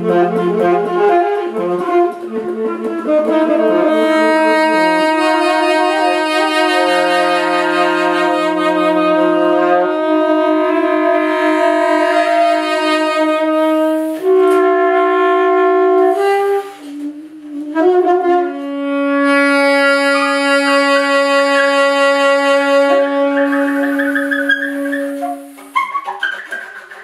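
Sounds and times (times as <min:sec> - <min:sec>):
saxophones playing long notes: 0:00.0 - 0:27.0.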